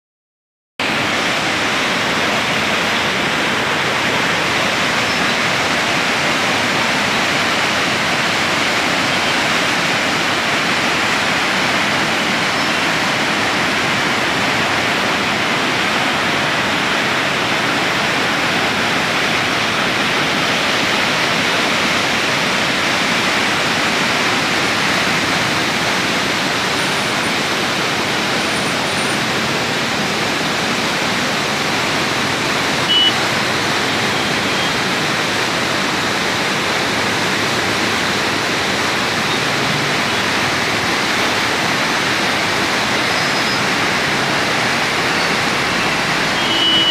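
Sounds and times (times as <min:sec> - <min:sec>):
floodwater rushing: 0:00.8 - 0:46.9.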